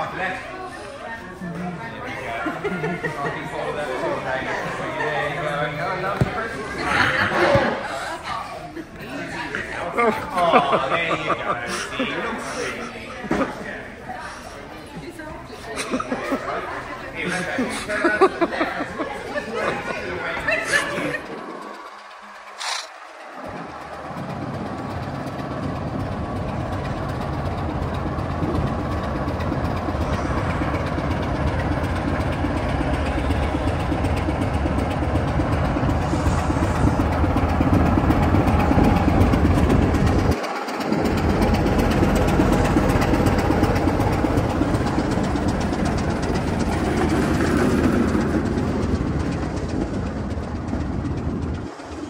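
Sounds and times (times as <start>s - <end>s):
diesel train rumbling on rails: 0.0s - 52.0s.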